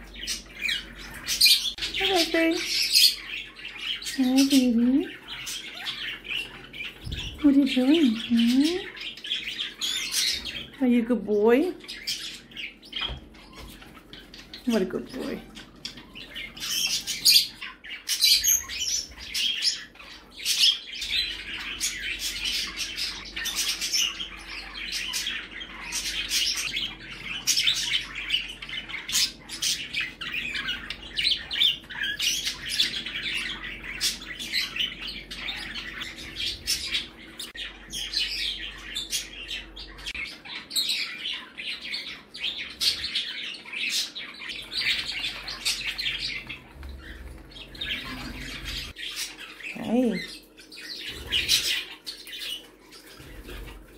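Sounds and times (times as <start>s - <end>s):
small parrots chirping and calling: 0.0s - 53.9s.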